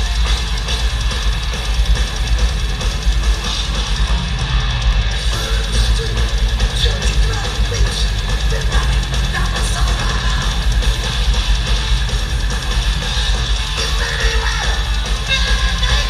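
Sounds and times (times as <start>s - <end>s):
heavy metal band playing live: 0.0s - 16.0s.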